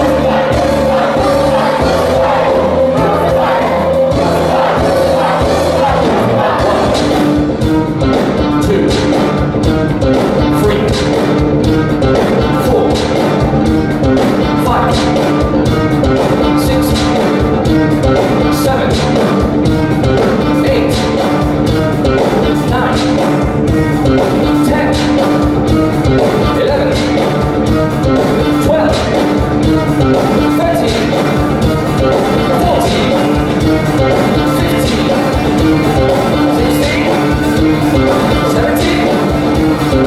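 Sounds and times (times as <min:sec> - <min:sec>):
drums beating: 0:00.0 - 0:40.0
rock band and orchestra playing: 0:00.0 - 0:40.0.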